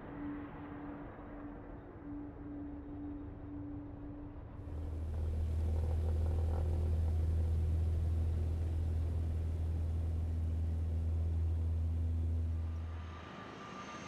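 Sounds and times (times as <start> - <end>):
turboprop engines droning: 1.2 - 14.0.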